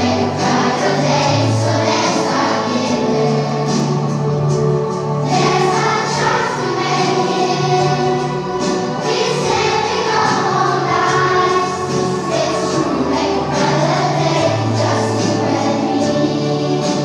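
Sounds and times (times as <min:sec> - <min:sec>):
choir singing with accompaniment: 0:00.0 - 0:17.0.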